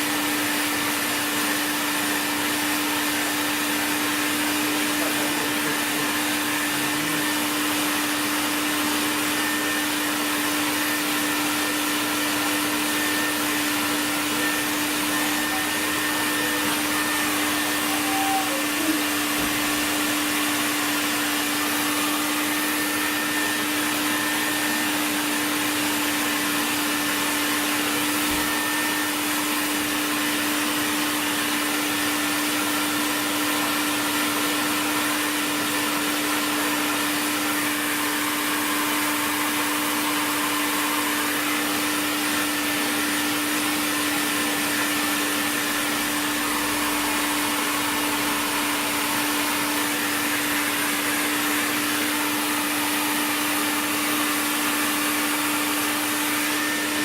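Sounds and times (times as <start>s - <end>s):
dust extractor hiss: 0.0s - 57.0s
electric sander motor whine: 0.1s - 57.0s.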